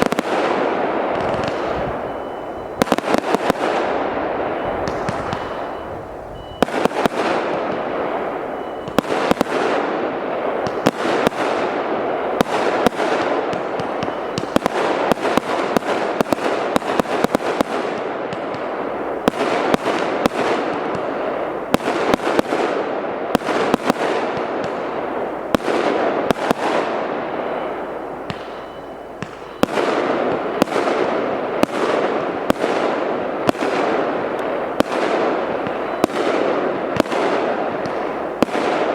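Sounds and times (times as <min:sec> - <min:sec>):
fireworks hiss and crackle: 0:00.0 - 0:22.7, 0:23.3 - 0:38.9
fireworks bangs: 0:00.0 - 0:38.9.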